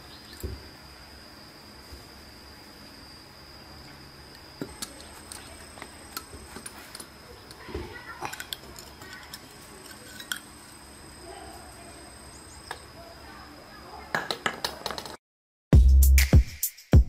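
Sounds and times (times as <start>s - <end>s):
high insect drone: 0.0s - 15.2s.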